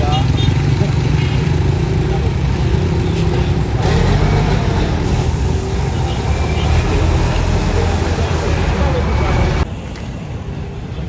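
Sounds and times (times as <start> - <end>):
vehicles driving past: 0.0 - 11.0.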